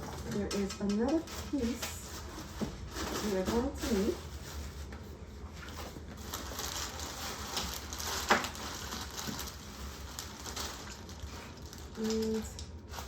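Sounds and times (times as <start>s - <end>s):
rustling of parts and packaging: 0.0s - 13.0s.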